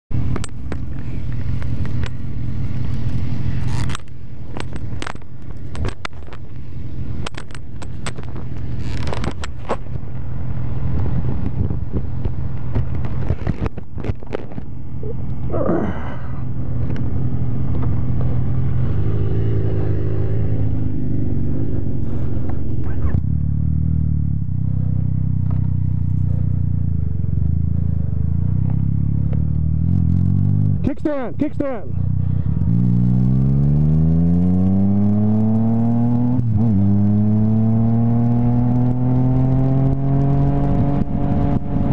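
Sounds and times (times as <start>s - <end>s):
motorcycle engine running: 0.1s - 41.9s.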